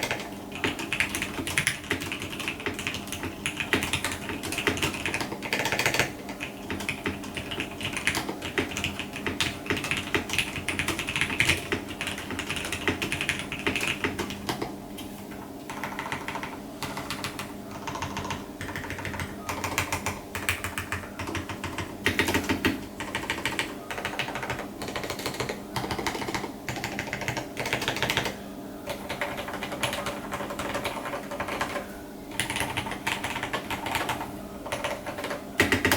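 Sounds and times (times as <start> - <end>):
typing on mechanical keyboard: 0.0 - 14.7, 15.7 - 35.9.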